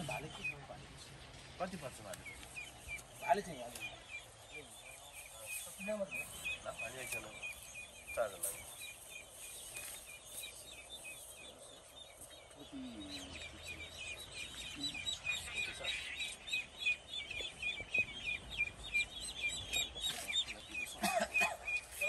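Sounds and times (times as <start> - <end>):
bird chirping: 0.0 - 22.0
lower bird calls: 0.0 - 22.0.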